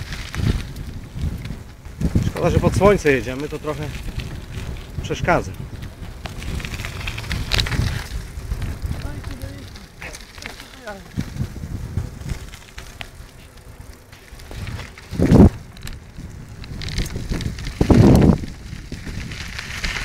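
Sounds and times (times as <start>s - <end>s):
bike tyres crunching on gravel: 0.0s - 20.0s.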